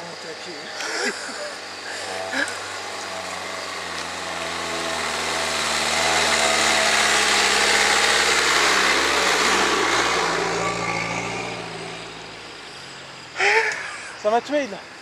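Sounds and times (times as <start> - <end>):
off-road vehicle engine driving: 0.0 - 15.0.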